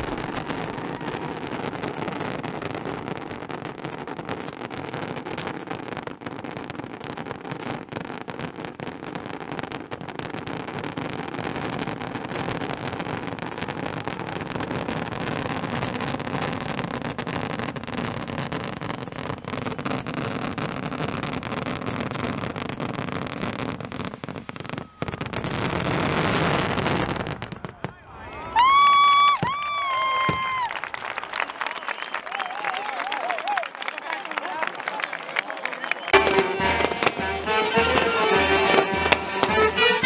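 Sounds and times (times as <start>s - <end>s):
firework rockets bursting: 0.0s - 30.8s, 36.1s - 40.0s.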